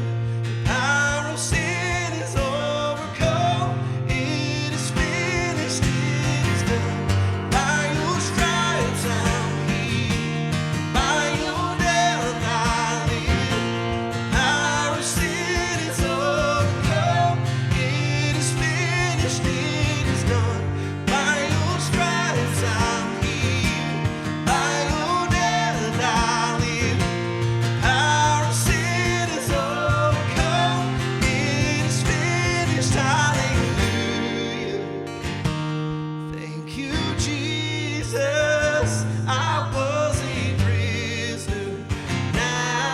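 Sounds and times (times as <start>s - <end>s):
band playing worship song: 0.0s - 35.9s, 36.7s - 42.9s
strummed acoustic guitar: 0.0s - 42.9s.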